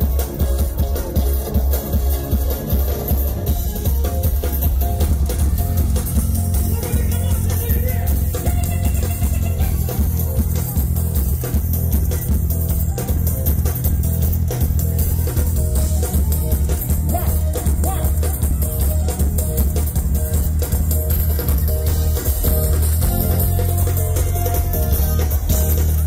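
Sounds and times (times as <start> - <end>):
live calypso band music: 0.0 - 26.0.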